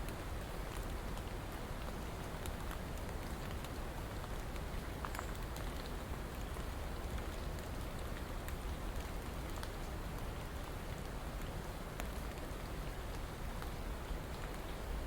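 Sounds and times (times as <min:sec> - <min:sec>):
raindrops ticking on a surface: 0:00.0 - 0:15.0
steady rain falling: 0:00.0 - 0:15.0.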